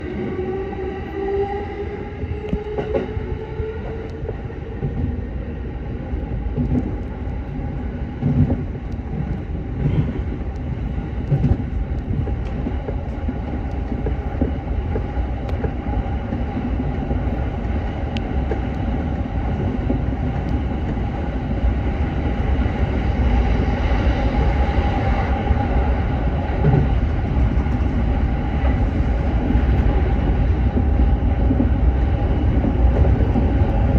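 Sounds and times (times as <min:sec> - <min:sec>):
electric train rumbling on rails: 0:00.0 - 0:33.9.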